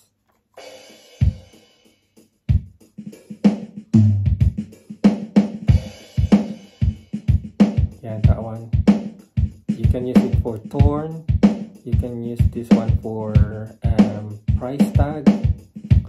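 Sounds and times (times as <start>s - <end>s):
drum machine beat: 0.6s - 16.0s.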